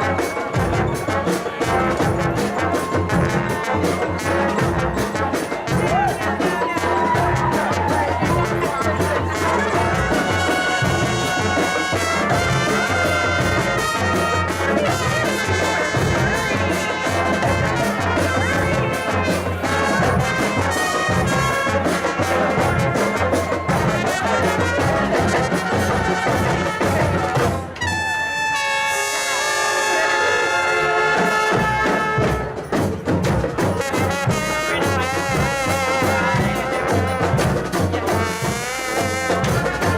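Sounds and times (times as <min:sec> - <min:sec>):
steady drum beat: 0:00.0 - 0:28.0, 0:30.9 - 0:39.9
brass marching band playing: 0:00.0 - 0:39.9.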